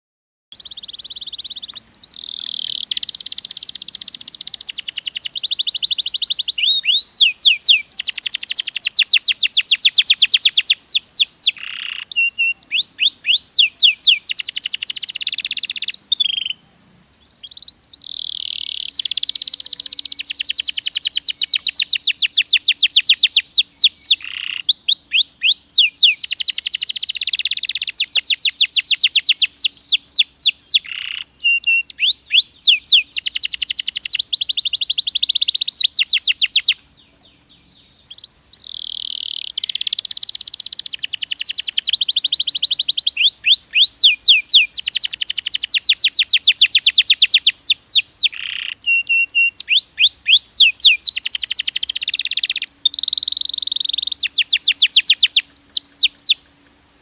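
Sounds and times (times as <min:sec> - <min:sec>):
canary singing trills: 0:00.5 - 0:56.4.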